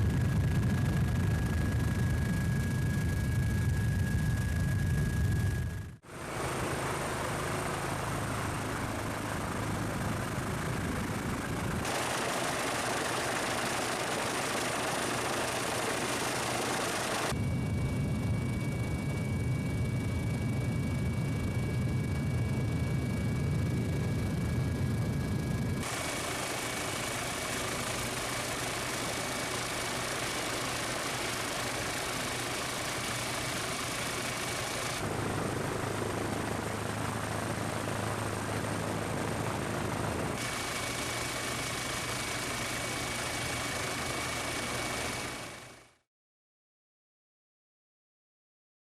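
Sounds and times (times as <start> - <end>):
aircraft engine noise: 0.0 - 45.9.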